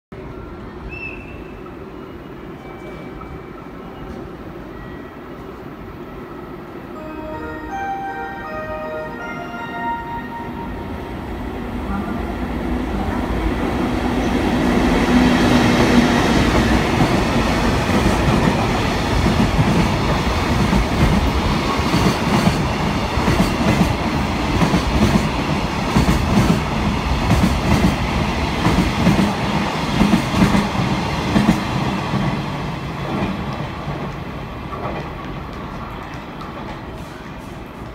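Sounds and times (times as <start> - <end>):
electric locomotive humming: 0.2 - 34.8.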